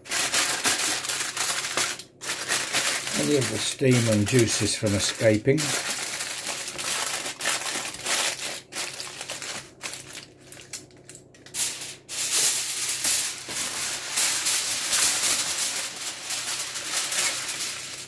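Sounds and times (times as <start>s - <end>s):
aluminium foil crinkling: 0.0s - 18.0s.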